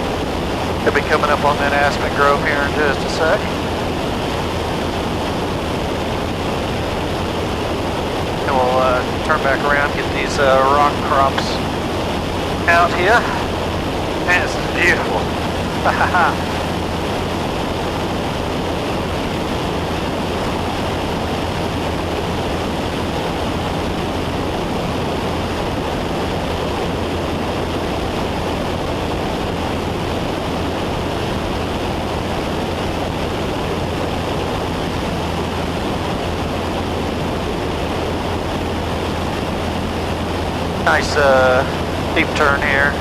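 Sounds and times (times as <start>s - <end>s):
propeller plane engine droning: 0.0s - 43.0s
rushing airflow: 0.0s - 43.0s.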